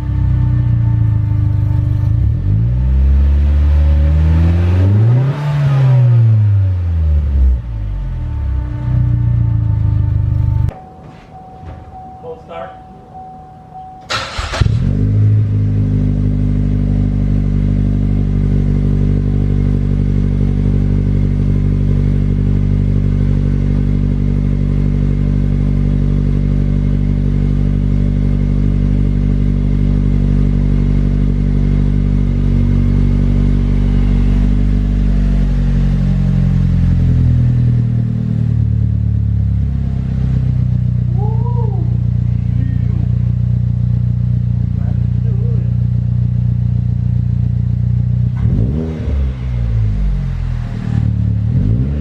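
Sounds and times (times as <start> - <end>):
car engine idling: 0.0 - 4.1, 6.7 - 51.9.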